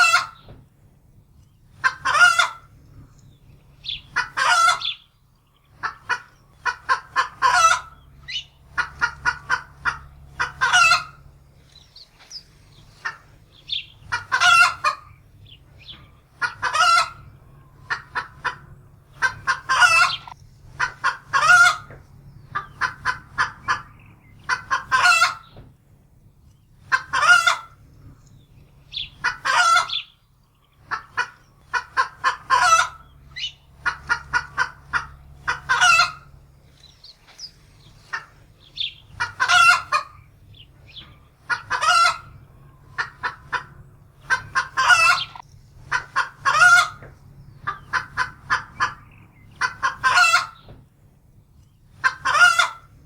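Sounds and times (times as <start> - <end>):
hen cackling in alarm: 0.0 - 0.5, 1.7 - 2.7, 3.8 - 5.1, 5.7 - 11.3, 12.4 - 25.6, 26.8 - 27.8, 28.8 - 30.2, 30.8 - 50.7, 51.9 - 53.0.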